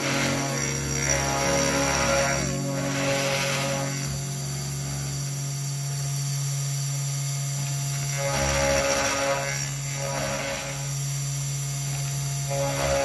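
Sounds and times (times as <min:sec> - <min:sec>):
router bit cutting wood: 0:00.0 - 0:13.0
router spindle humming: 0:00.0 - 0:13.0.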